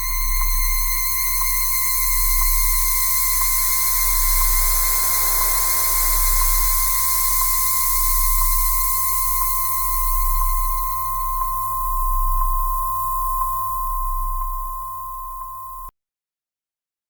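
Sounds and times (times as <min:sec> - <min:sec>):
deep synthesized drone: 0:00.0 - 0:15.7
steady high-pitched tones: 0:00.0 - 0:15.9.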